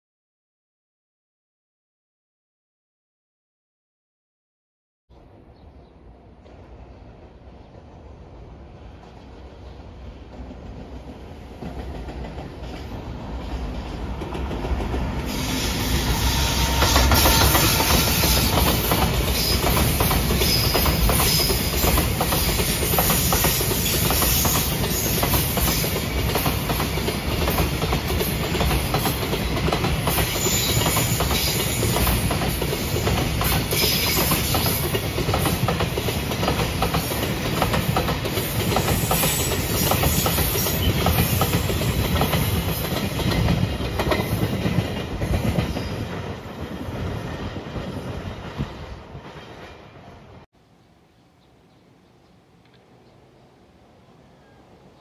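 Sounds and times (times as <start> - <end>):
train rumbling past: 5.1 - 50.5.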